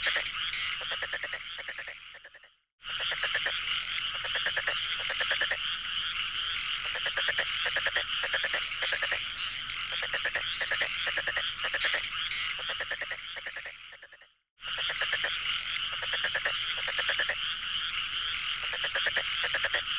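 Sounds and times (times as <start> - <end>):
frogs chirping: 0.0 - 19.9
frogs croaking: 0.0 - 19.9.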